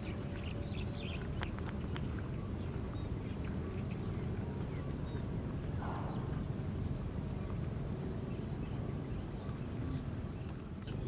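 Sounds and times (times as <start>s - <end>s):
birds chirping: 0.0s - 11.0s
low rumbling noise: 0.0s - 11.0s.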